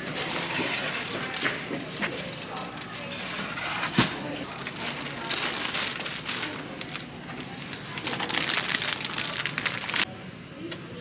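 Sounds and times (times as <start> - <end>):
cellophane crinkling: 0.0 - 10.1.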